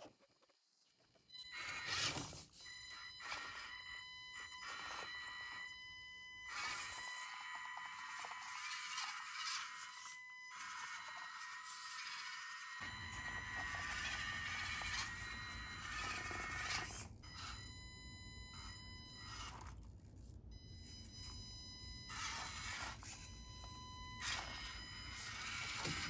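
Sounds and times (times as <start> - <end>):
small electric motor whining: 1.4 - 19.8, 20.7 - 26.0.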